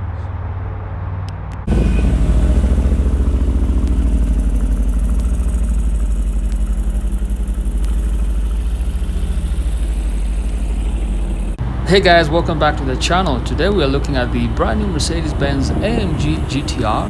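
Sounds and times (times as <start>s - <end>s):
car engine idling: 1.6s - 17.0s.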